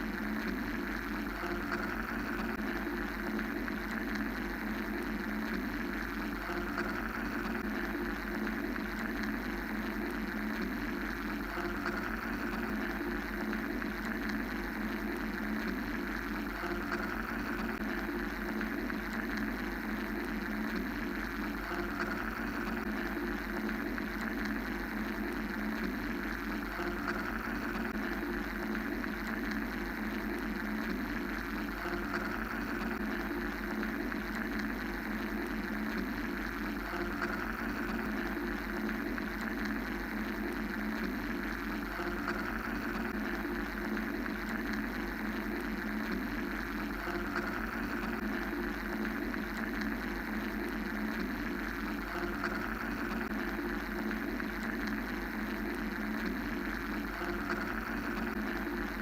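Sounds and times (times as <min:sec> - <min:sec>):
mechanical white-noise drone: 0:00.0 - 0:59.0.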